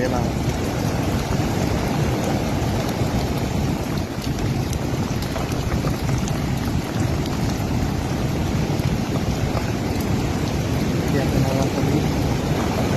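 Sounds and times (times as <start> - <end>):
hurricane wind: 0.0 - 12.9
wind buffeting microphone: 0.0 - 12.9.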